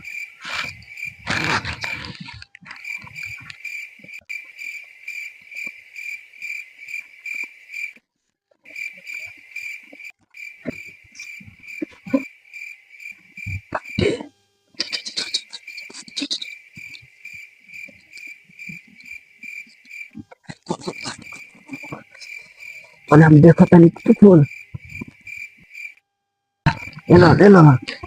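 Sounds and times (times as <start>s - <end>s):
insects chirping: 0.0s - 8.0s, 8.6s - 28.0s.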